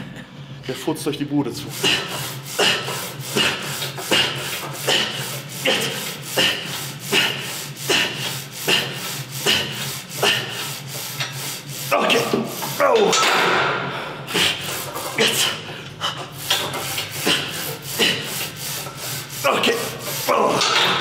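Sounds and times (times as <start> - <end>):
weight machine rasping rub: 1.5 - 21.0.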